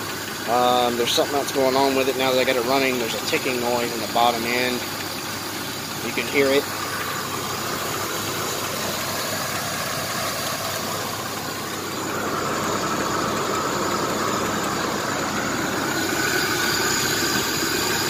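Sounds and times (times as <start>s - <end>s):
car engine idling: 0.0s - 18.0s
engine ticking: 0.0s - 18.0s.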